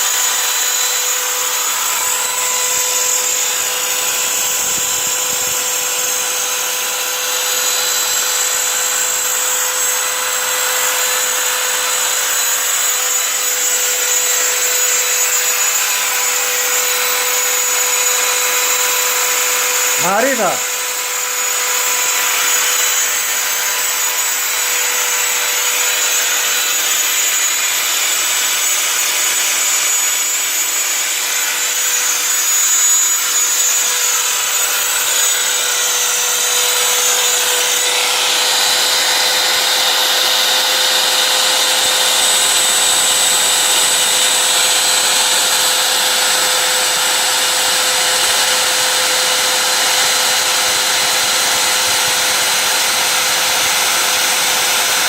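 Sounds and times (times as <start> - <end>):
router spindle cutting wood: 0.0 - 55.0.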